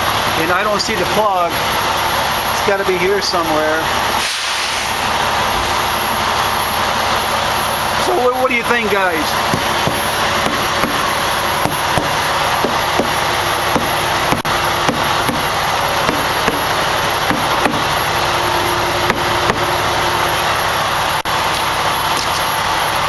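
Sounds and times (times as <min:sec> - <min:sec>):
large vehicle engine running: 0:00.0 - 0:23.0.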